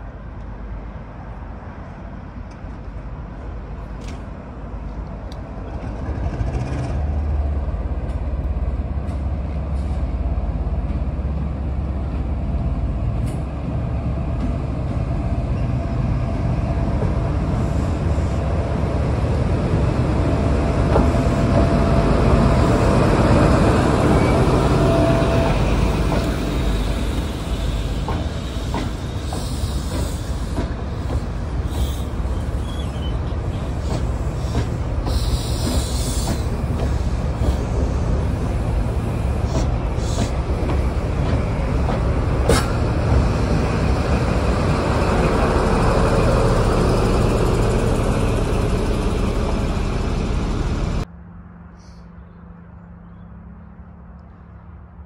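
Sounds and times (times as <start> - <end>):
train rumbling past: 0.0 - 52.1.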